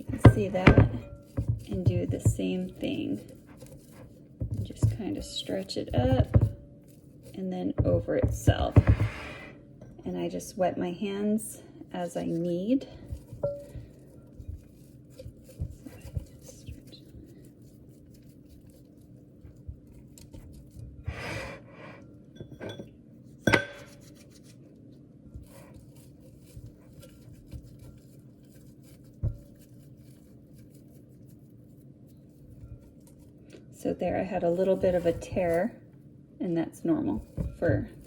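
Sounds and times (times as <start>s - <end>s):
hands handling sticky dough: 0.0s - 10.0s, 11.9s - 21.0s, 22.0s - 36.2s, 36.8s - 38.0s.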